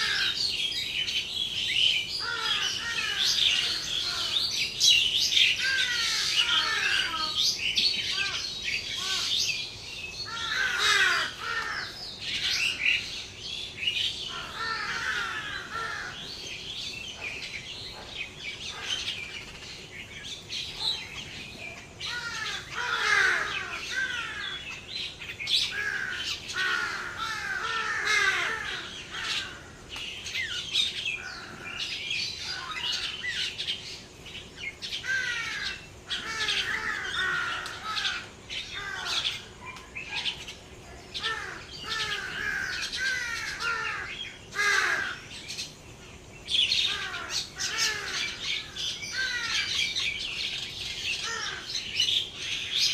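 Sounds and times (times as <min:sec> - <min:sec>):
flock of birds chirping: 0:00.0 - 0:52.9.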